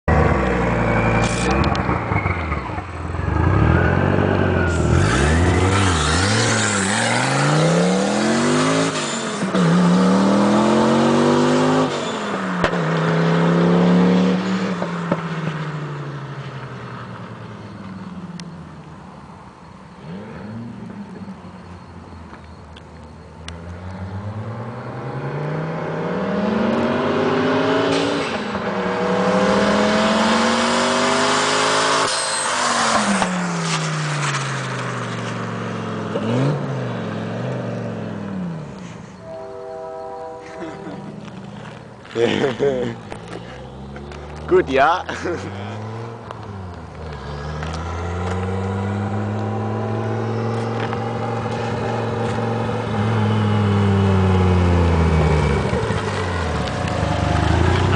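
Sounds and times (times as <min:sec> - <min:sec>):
car engine accelerating through gears: 0:00.1 - 0:16.7, 0:23.4 - 0:39.0, 0:40.6 - 0:57.9.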